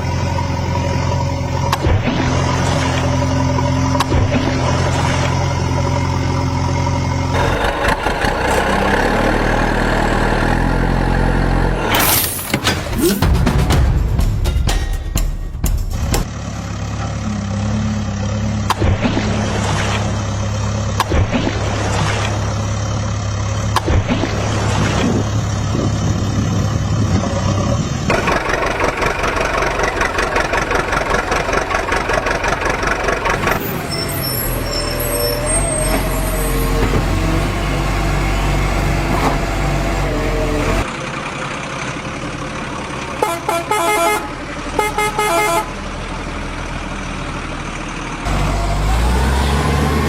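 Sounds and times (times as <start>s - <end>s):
heavy diesel engines running: 0.0s - 13.5s, 15.9s - 50.0s.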